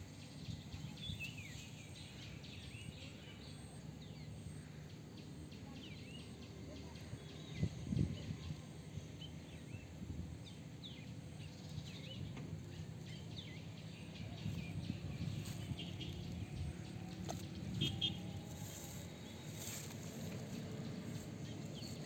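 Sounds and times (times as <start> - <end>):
low outdoor rumble: 0.0 - 22.0
small birds chirping: 0.0 - 22.0.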